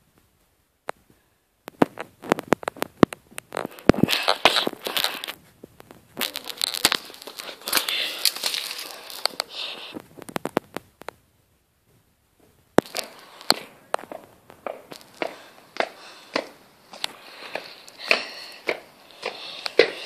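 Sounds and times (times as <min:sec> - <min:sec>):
crackling and rustling: 0:00.0 - 0:20.0.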